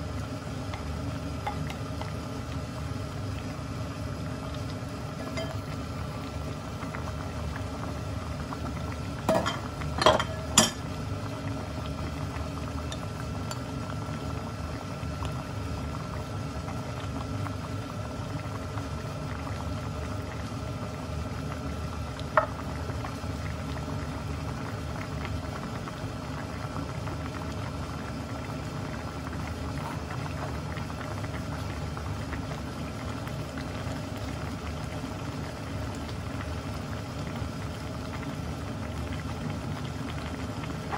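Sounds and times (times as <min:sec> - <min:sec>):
broth bubbling in a pot: 0:00.0 - 0:40.9.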